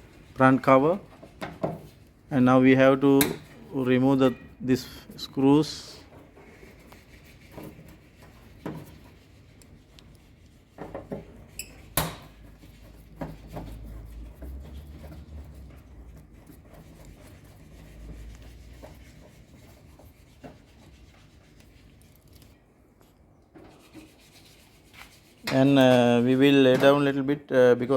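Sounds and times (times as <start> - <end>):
screwdriver rubbing and scraping: 0.0 - 26.1.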